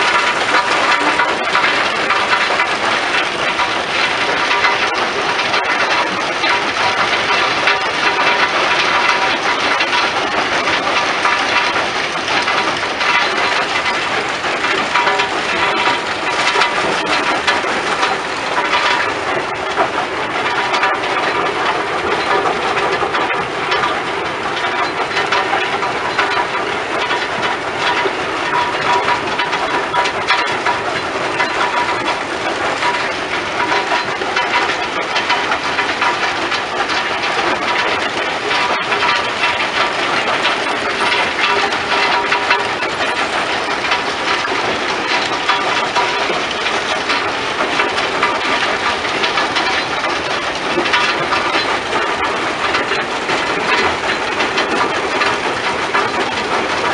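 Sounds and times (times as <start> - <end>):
crushing machinery din: 0.0 - 56.9.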